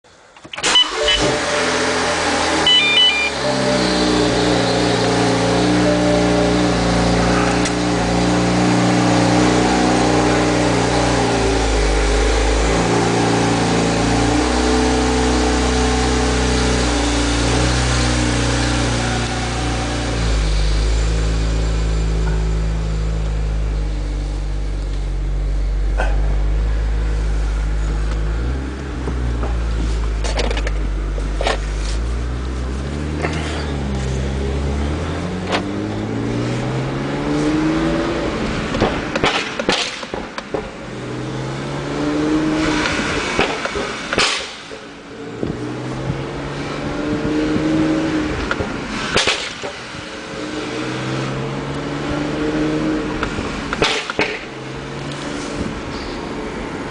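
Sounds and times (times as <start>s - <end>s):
car engine revving: 0.6s - 56.9s.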